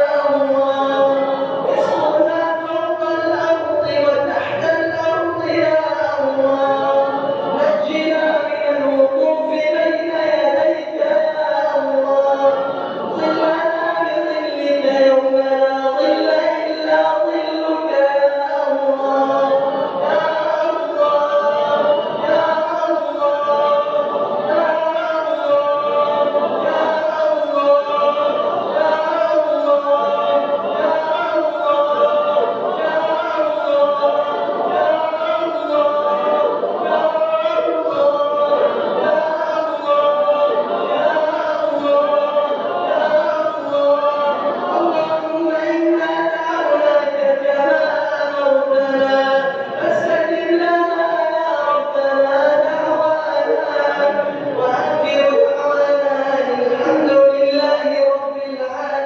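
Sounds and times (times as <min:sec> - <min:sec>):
person chanting a prayer: 0:00.0 - 0:59.0.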